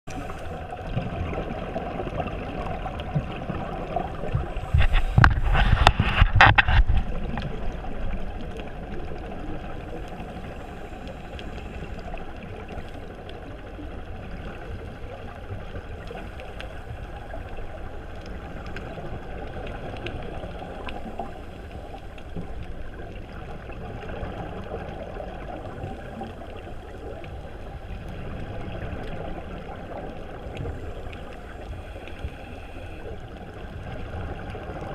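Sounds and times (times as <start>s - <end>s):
muffled underwater water wash: 0.0s - 34.9s
scuba exhaust bubbles rushing: 0.1s - 34.9s.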